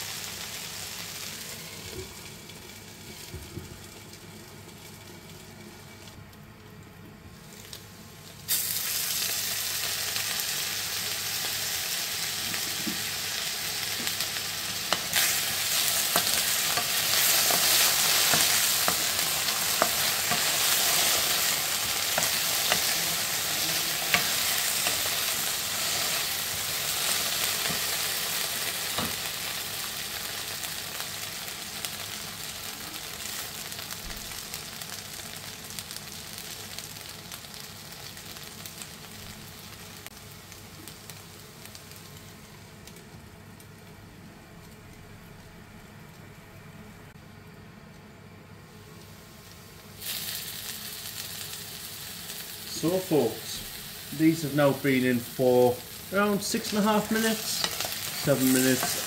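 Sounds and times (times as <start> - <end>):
potatoes sizzling in oil: 0.0 - 6.2, 7.3 - 42.9, 49.0 - 59.0.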